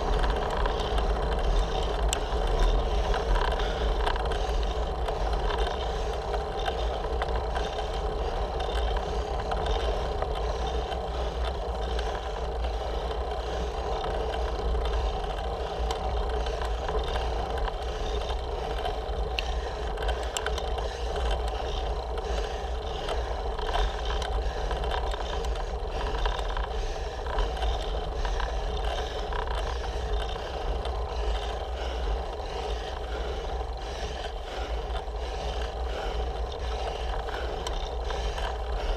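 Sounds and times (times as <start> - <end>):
wind and tyre rumble: 0.0 - 38.9.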